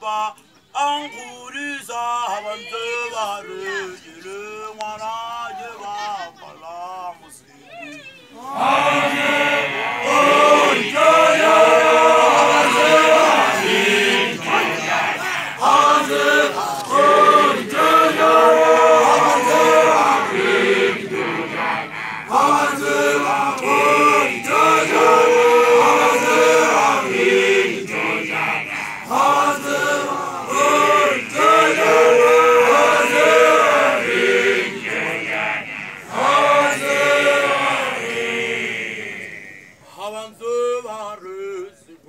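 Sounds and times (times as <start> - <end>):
men chanting: 0.8 - 7.2, 8.4 - 41.2.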